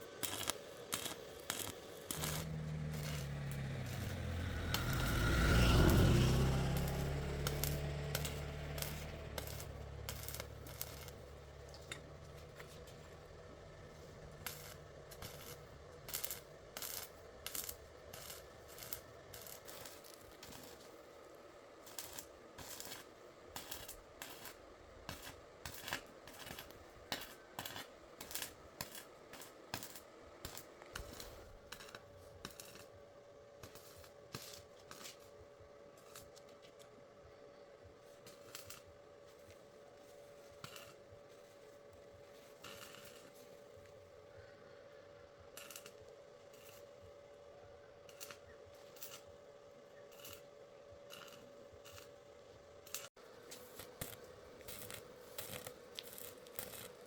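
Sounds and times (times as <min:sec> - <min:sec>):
faint steady hum: 0:06.8 - 0:57.0.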